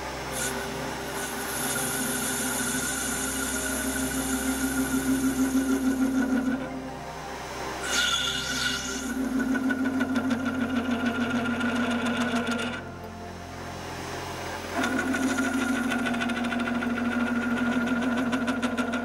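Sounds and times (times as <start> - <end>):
metal lathe whining: 0.0 - 19.0.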